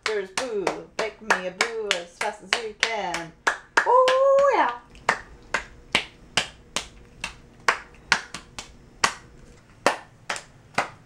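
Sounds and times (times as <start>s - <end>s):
hands clapping together: 0.0s - 11.0s.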